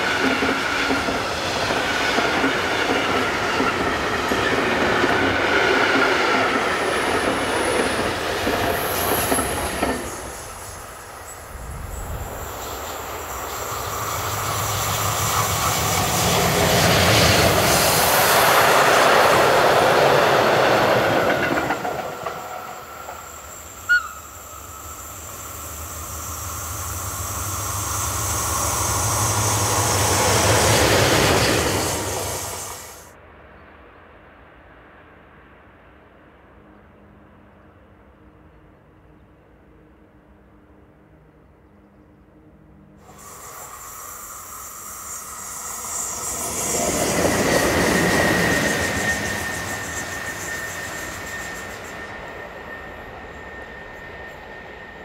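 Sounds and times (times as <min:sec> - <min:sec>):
wheels hissing on rail: 0:00.0 - 0:33.1, 0:43.0 - 0:55.0
electric locomotive hum: 0:00.0 - 0:33.7, 0:36.5 - 0:55.0.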